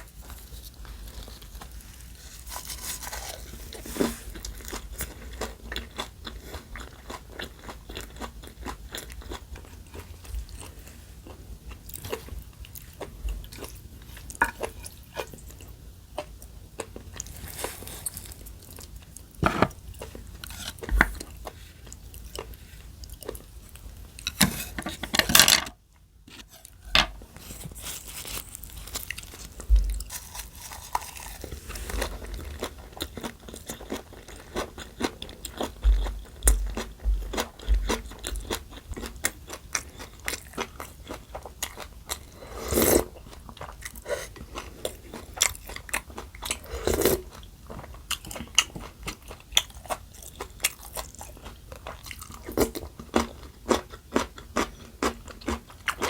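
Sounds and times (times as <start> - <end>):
person chewing crunchy food: 0.0 - 25.4, 26.3 - 56.0.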